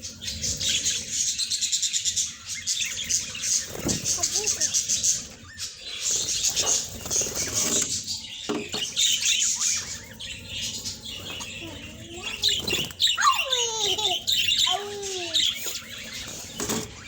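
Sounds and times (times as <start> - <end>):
budgerigars chattering: 0.0 - 17.0
loud falling bird calls: 2.5 - 17.0.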